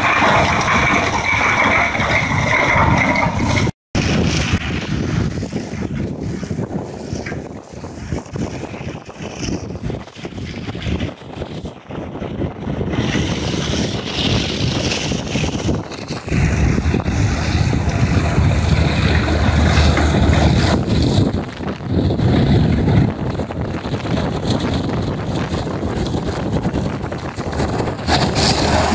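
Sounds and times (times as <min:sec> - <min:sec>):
tractor engine running: 0:00.0 - 0:28.9
wind buffeting microphone: 0:00.0 - 0:28.9.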